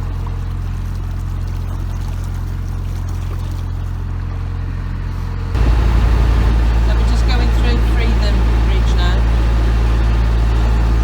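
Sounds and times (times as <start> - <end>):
boat diesel engine drone: 0.0 - 11.0.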